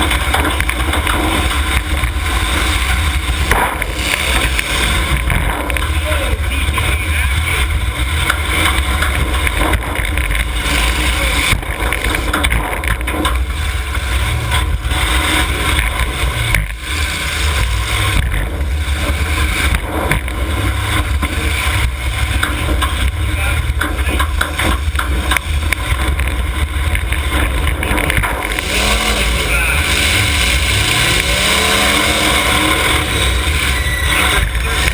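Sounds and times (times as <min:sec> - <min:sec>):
car engines revving: 0:00.0 - 0:34.9
cars ramming into each other: 0:00.0 - 0:34.9.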